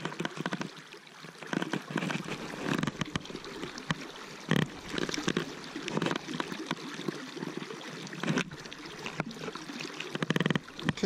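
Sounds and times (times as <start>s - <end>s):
river water splashing: 0.0s - 11.0s.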